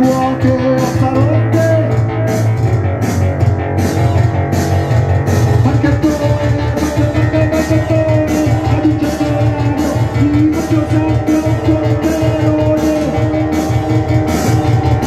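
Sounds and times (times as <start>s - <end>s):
punk band playing live: 0.0s - 15.0s.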